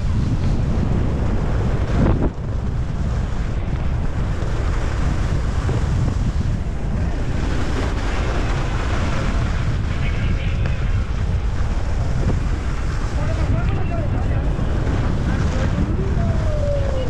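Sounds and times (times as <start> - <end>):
skis sliding on snow: 0.0 - 16.4
wind rushing over microphone: 0.0 - 17.0.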